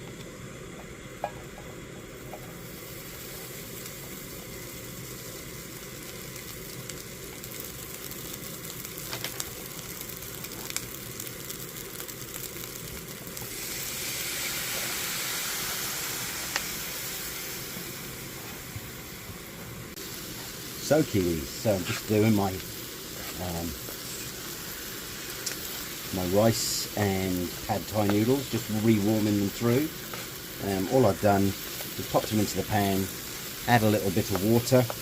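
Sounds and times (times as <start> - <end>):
noodles sizzling in a pan: 0.0 - 35.0.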